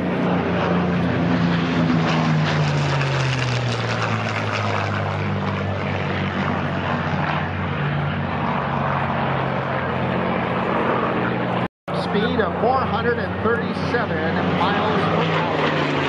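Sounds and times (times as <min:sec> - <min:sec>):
propeller plane engine flypast: 0:00.0 - 0:16.0.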